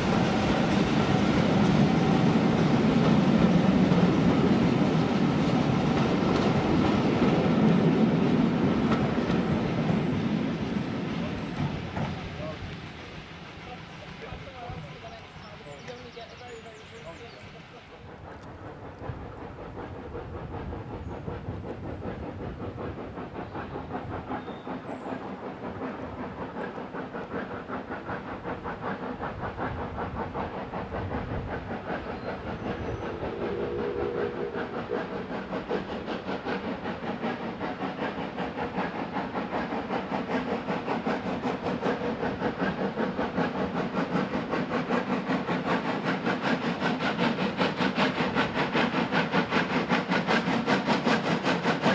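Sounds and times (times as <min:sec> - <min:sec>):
steam locomotive exhaust beats: 0:00.0 - 0:51.9.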